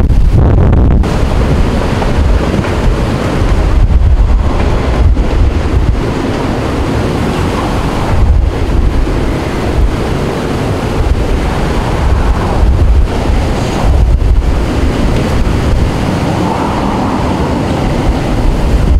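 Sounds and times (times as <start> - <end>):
roaring wind: 0.0 - 18.9
wind gusts buffeting microphone: 0.0 - 18.9.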